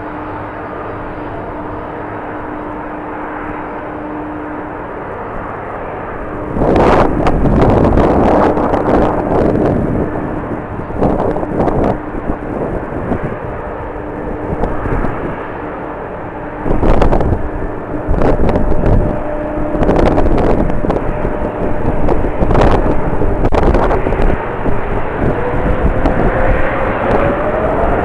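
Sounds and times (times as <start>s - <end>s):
jet engines whining: 0.0s - 28.0s
wind buffeting microphone: 0.0s - 28.0s.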